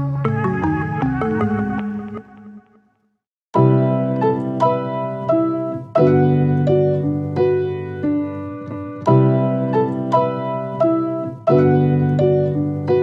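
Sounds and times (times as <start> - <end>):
piano melody over chords: 0.0 - 2.8, 3.6 - 13.0.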